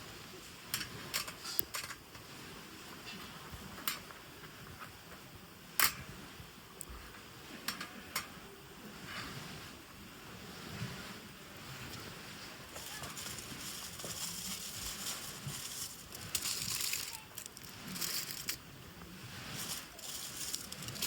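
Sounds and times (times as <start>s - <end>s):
faint hiss: 0.0s - 21.0s.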